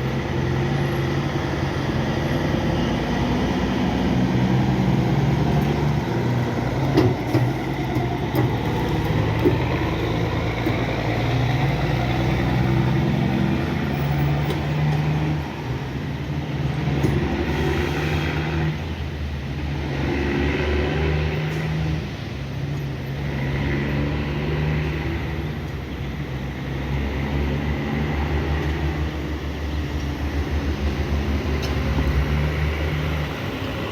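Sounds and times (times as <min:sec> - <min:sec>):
truck diesel engine droning: 0:00.0 - 0:33.9.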